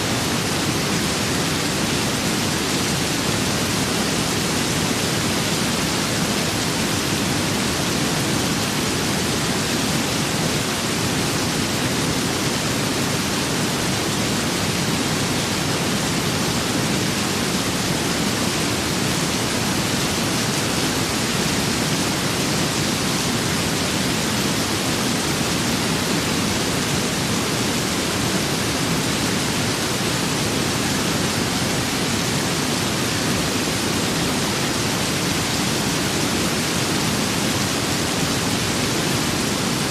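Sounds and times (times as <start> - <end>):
steady rain with wind: 0.0 - 39.9.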